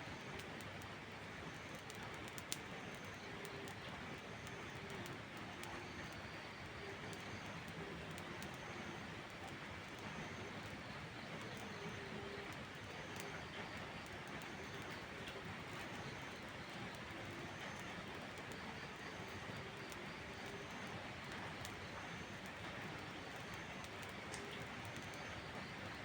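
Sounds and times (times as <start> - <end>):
wood fire crackling and popping: 0.1 - 26.0.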